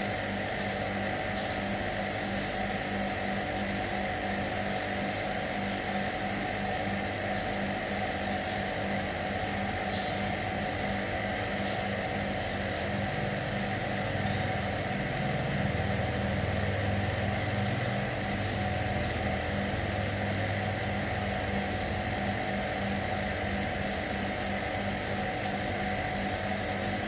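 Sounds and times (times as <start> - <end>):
engine running with low drone: 5.2 - 27.0.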